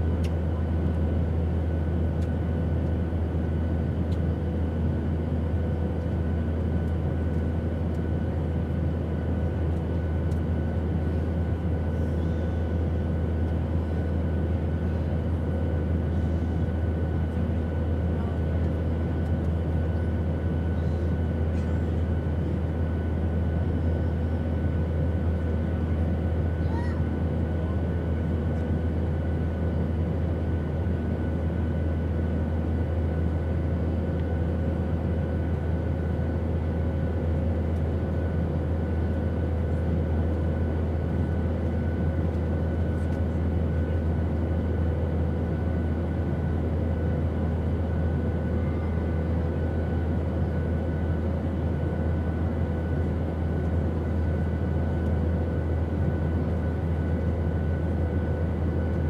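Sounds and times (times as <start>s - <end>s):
airplane rumble and hiss: 0.0s - 59.0s.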